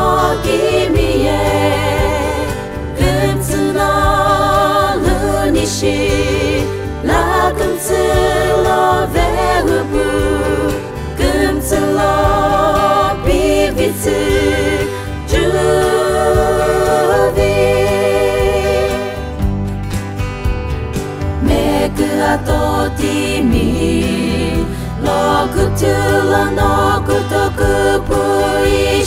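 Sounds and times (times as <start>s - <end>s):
women singing together: 0.0s - 19.4s, 21.4s - 29.0s
instrumental backing: 0.0s - 29.0s.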